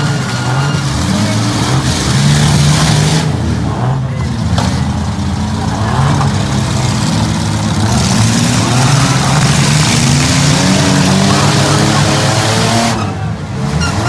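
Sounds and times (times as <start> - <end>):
engines revving: 0.0 - 14.0.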